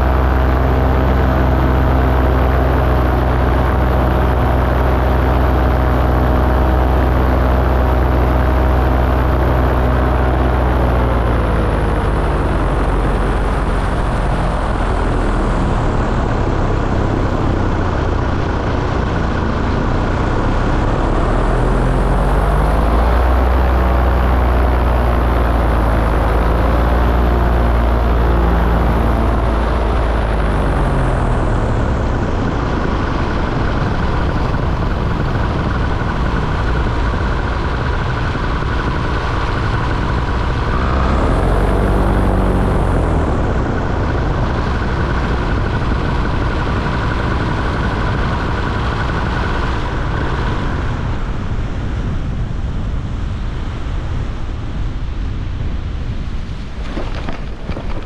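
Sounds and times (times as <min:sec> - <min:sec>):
heavy low rumble: 0:00.0 - 0:58.0
small aircraft engine running: 0:00.0 - 0:58.0.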